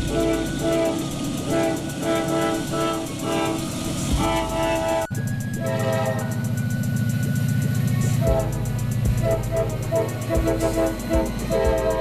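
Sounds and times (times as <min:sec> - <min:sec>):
diesel engine drone: 0:00.0 - 0:12.0
locomotive air horn blasts: 0:00.0 - 0:12.0
train rumble: 0:00.0 - 0:12.0.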